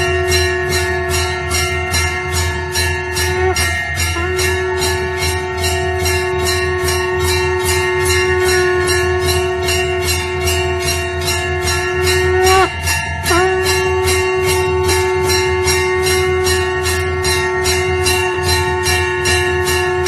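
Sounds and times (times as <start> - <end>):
continuous droning tone: 0.0 - 20.0
temple bells ringing: 0.0 - 20.0.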